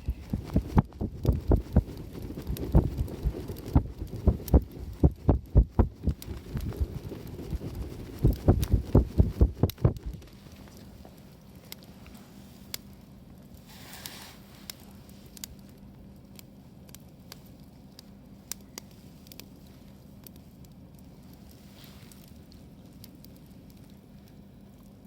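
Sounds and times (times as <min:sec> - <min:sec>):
campfire crackling: 0:00.0 - 0:25.0
fire hissing: 0:00.0 - 0:25.0.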